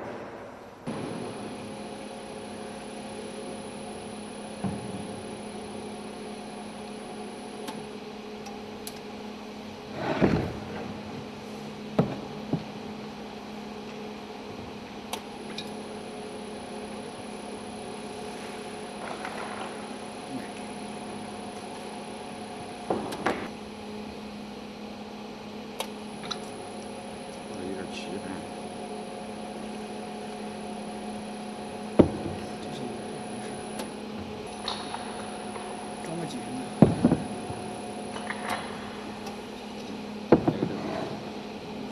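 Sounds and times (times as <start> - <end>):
bottle-filling machine humming: 0.9 - 41.9.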